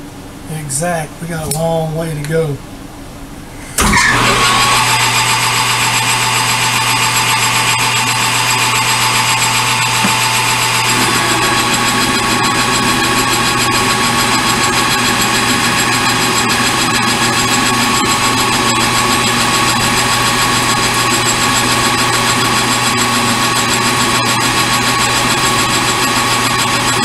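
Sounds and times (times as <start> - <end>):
metal lathe running: 3.8 - 27.0.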